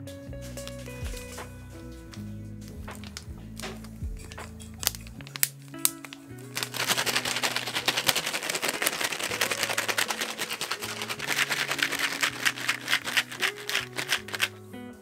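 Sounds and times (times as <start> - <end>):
lofi background music: 0.0 - 15.0
plastic bag of parts rattling: 0.4 - 1.4, 2.1 - 14.6.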